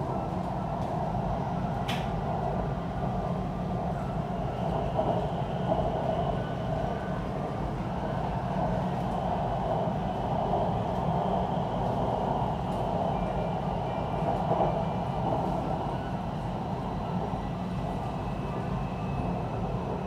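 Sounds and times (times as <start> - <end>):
train rumble and rolling noise: 0.0 - 20.0.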